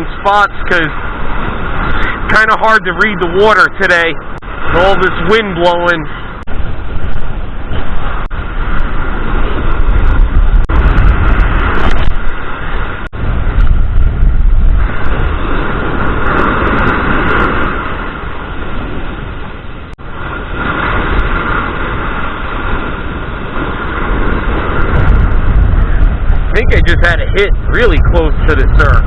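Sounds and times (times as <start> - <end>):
surf breaking on beach: 0.0 - 29.0
wind rumbling on microphone: 0.0 - 29.0.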